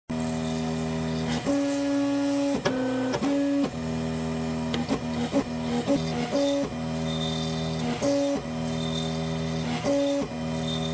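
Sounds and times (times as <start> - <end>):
steady high-pitched whine: 0.1 - 10.9
stepper motors whining: 0.2 - 10.9.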